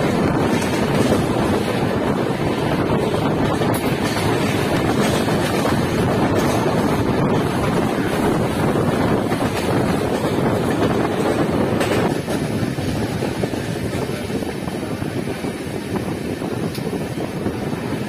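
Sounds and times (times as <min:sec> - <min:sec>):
wheels roaring on rails: 0:00.0 - 0:18.0
wind buffeting microphone: 0:00.0 - 0:18.0.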